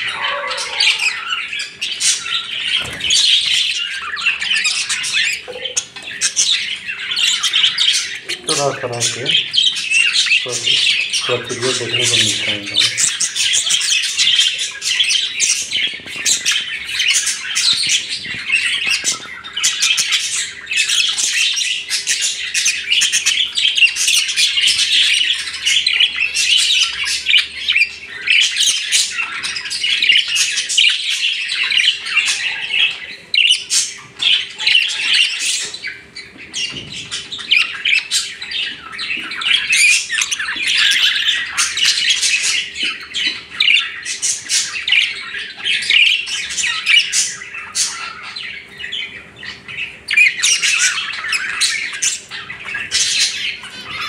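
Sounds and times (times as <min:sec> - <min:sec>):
budgerigars chattering and warbling: 0:00.0 - 0:54.0.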